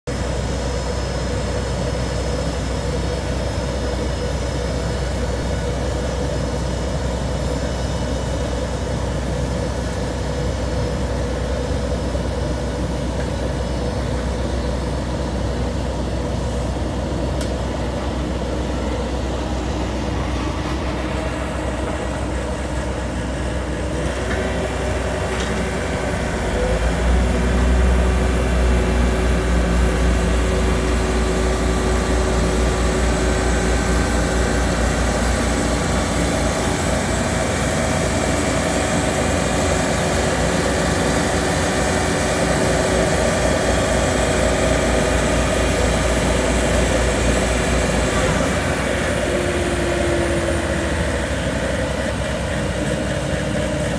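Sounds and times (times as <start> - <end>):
asphalt roller throbbing rumble: 0.1 - 53.9
diesel paving machinery running: 0.1 - 53.9.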